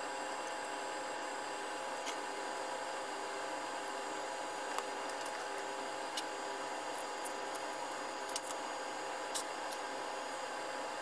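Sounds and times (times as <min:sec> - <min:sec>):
faint hum tones: 0:00.0 - 0:11.0.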